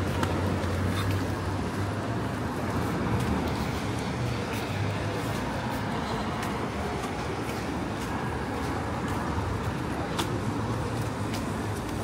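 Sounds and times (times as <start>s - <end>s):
rumble of passing cars: 0.0s - 12.0s.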